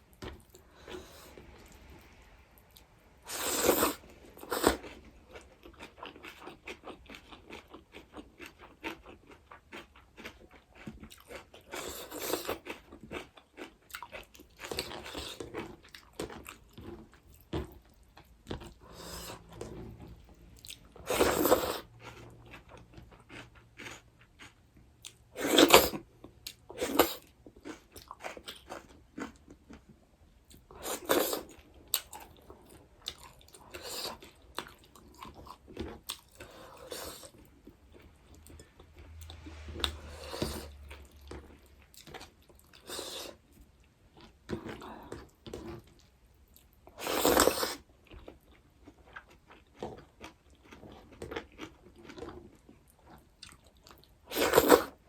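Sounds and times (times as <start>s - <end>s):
person chewing crunchy food: 0.2s - 55.0s.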